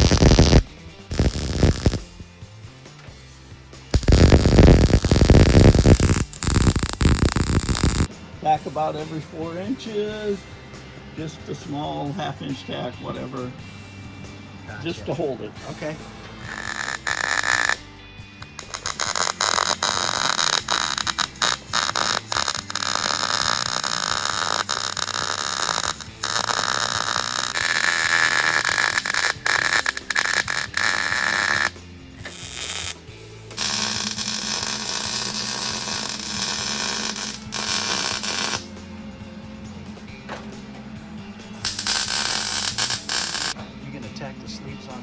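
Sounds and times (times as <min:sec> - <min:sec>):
welder arc crackling and hissing: 0:00.0 - 0:03.2, 0:03.8 - 0:10.4, 0:15.6 - 0:40.5, 0:41.5 - 0:43.6.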